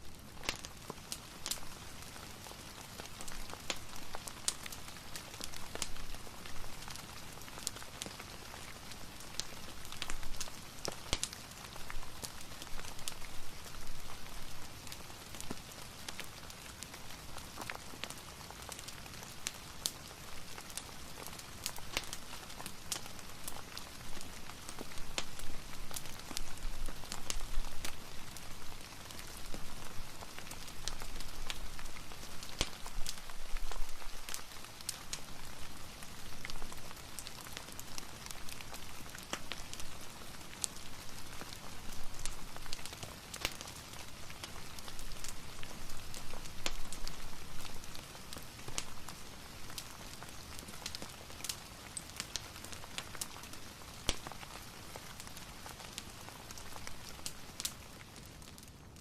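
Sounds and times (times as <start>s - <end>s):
fireplace crackling: 0.0s - 59.0s
steady rain: 0.0s - 59.0s.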